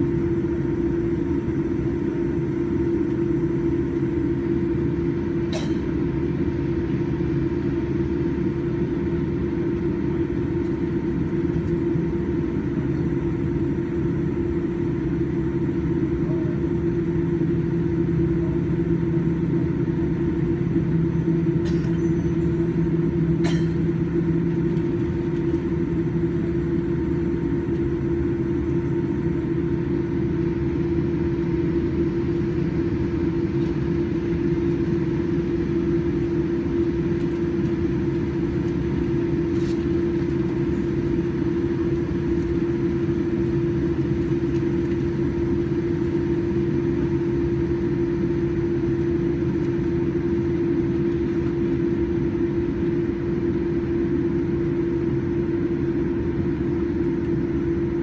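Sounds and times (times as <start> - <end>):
jet engines idling in cabin: 0.0 - 58.0.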